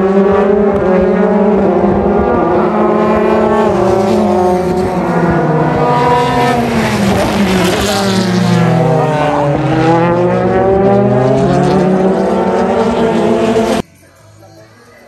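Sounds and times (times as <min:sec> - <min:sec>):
race car engines accelerating: 0:00.0 - 0:13.8.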